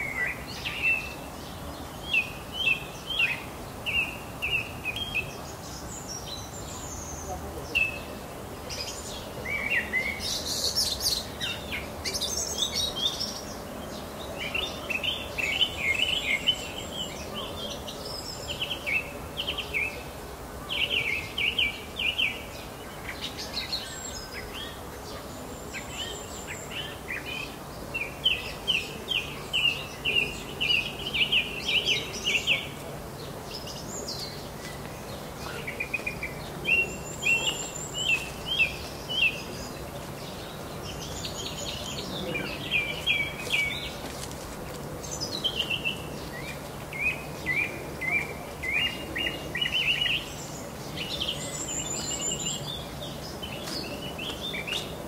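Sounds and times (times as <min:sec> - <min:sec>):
faint steady background noise: 0:00.0 - 0:55.0
songbirds chirping: 0:00.0 - 0:55.0.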